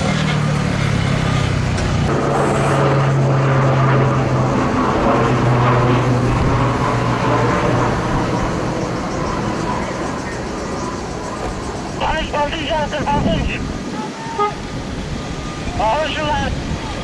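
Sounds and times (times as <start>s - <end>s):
aircraft propeller engines humming: 0.0s - 17.0s.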